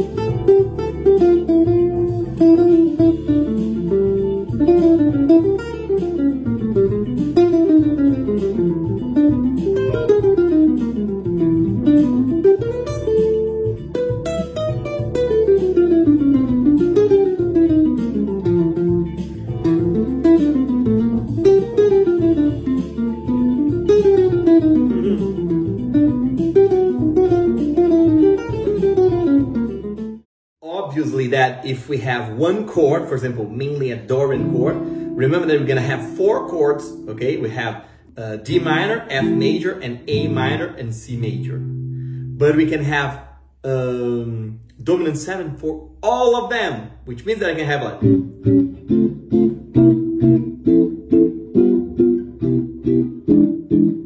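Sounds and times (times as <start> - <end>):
backing track: 0.0 - 30.2, 33.2 - 54.0
electric guitar jazz lines: 0.0 - 30.2, 30.9 - 54.0.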